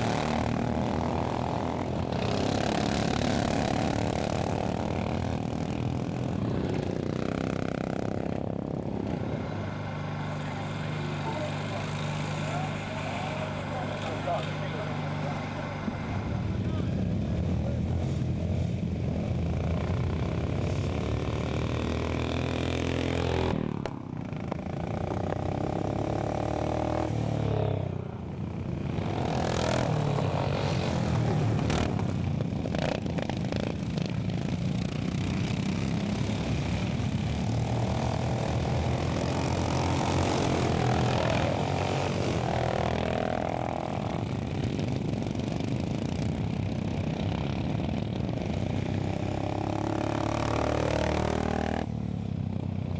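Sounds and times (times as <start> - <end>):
racing lawn mower engines revving: 0.0 - 52.9.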